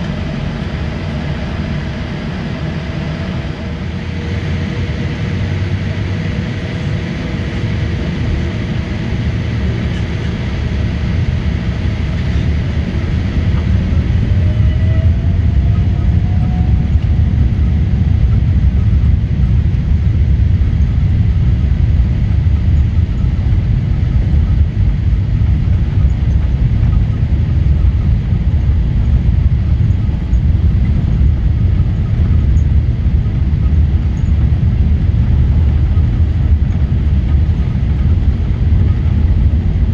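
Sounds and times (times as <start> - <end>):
deep jet engine rumble: 0.0 - 39.9.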